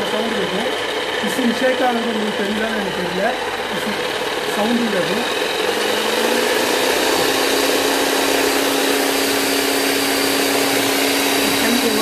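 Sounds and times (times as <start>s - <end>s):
electric concrete breaker droning: 0.0s - 12.0s.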